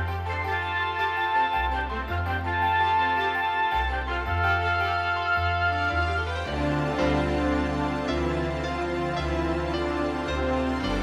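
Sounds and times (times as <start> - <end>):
sustained keyboard chords: 0.0 - 11.0.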